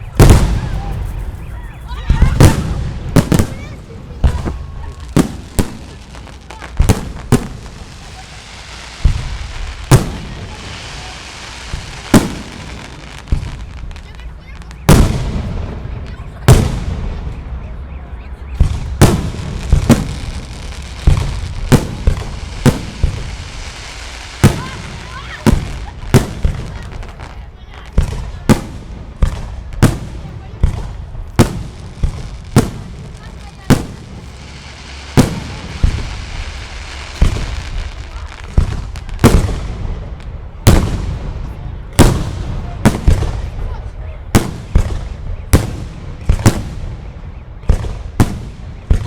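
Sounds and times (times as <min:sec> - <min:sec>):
crackling hiss of fireworks: 0:00.0 - 0:49.0.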